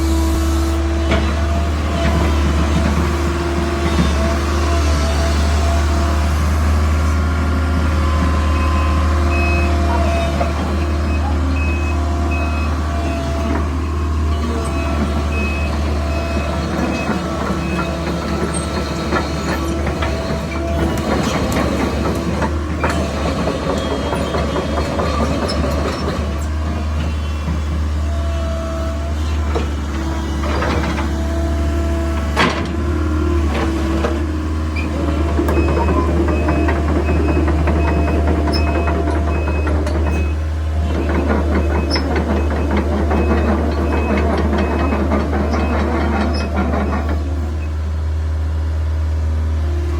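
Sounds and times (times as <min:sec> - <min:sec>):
excavator diesel hum: 0:00.0 - 0:49.9.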